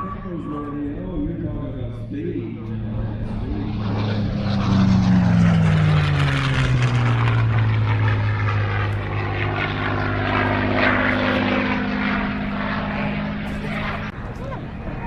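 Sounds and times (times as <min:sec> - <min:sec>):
propeller airplane flying past: 0:00.0 - 0:15.0.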